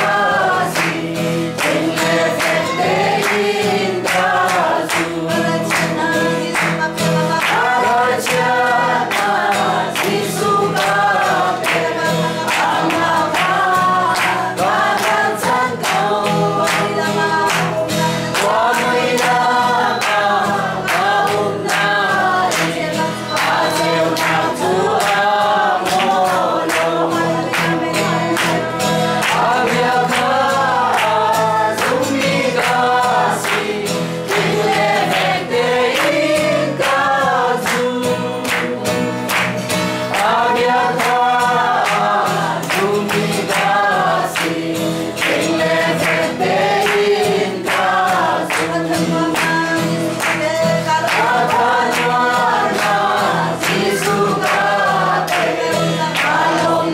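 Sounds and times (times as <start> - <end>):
group singing in unison: 0.0 - 56.9
hand clapping: 0.0 - 56.9.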